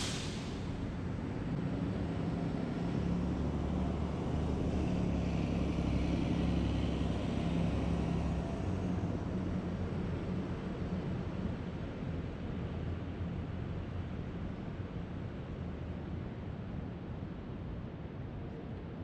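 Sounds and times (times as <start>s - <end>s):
road rumble: 0.0s - 15.2s.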